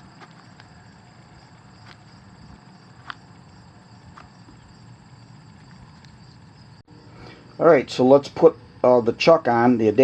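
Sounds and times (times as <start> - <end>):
high insect-like chirring: 0.0 - 9.4.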